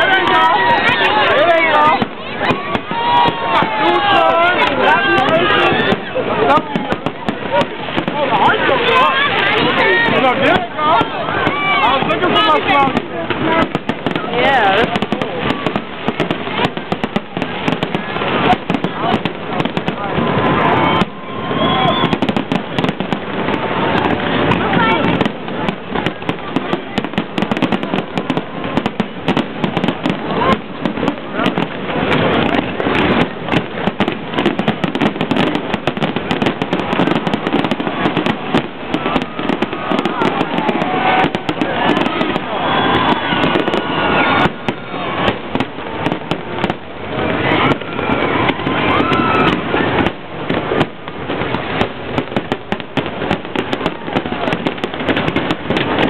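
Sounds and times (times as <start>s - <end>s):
firework crackling: 0.0s - 56.0s.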